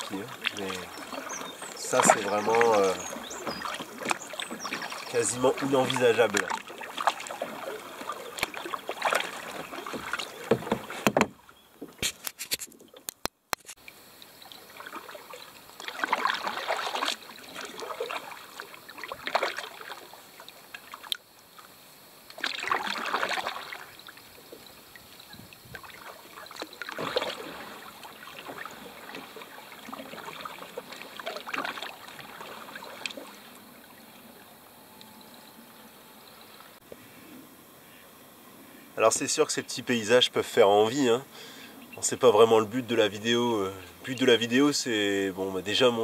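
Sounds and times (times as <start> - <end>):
water lapping: 0.0 - 13.1, 13.8 - 46.0
canoe paddle splashing: 0.0 - 46.0.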